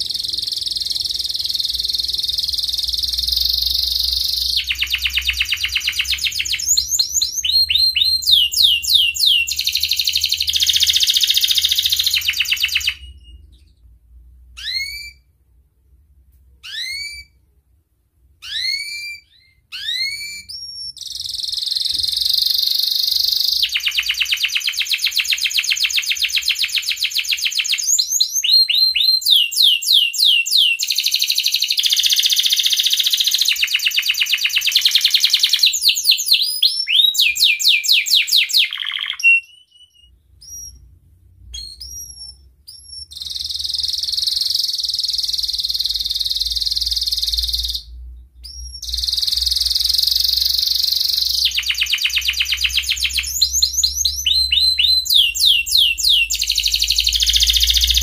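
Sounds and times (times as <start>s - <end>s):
canary singing trills and chirps: 0.0s - 15.4s, 16.6s - 17.4s, 18.3s - 58.0s.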